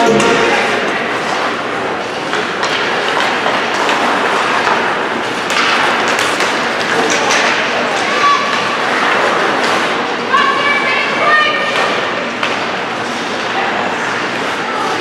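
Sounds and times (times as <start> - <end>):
hockey sticks and puck clacking: 0.0 - 10.6, 11.6 - 15.0
skates scraping ice: 1.0 - 10.6, 11.6 - 15.0.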